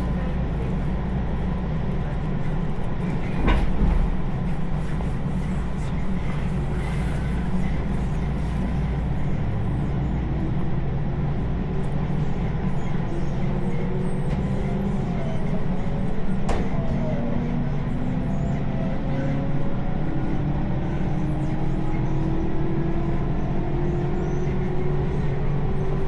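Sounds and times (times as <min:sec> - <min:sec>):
train rumbling along track: 0:00.0 - 0:26.0.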